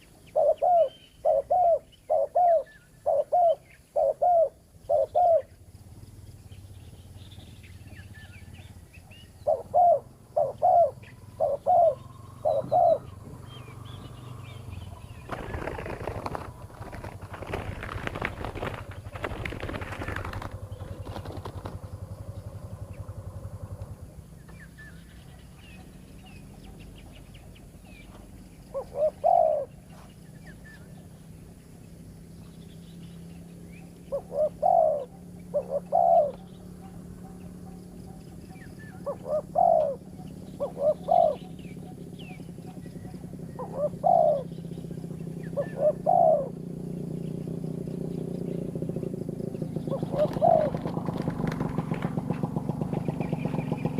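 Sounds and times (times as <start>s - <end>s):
doves cooing: 0.0s - 6.0s, 7.9s - 31.1s, 33.9s - 47.0s, 48.0s - 53.9s
steady low hum: 0.0s - 53.9s.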